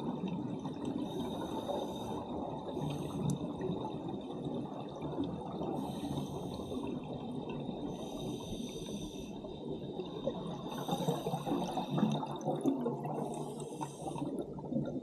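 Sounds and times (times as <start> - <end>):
underwater bubbles gurgling: 0.0 - 15.0.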